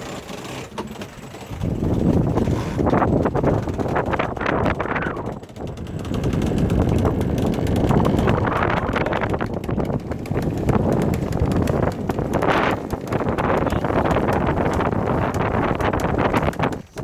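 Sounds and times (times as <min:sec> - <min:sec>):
wind buffeting microphone: 0:01.4 - 0:17.0.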